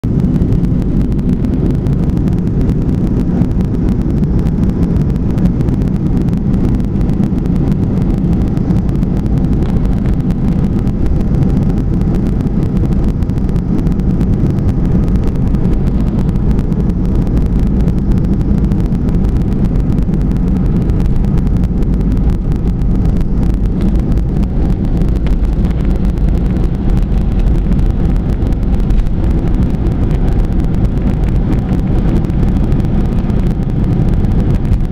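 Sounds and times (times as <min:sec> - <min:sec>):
aircraft engine drone: 0:00.0 - 0:34.9.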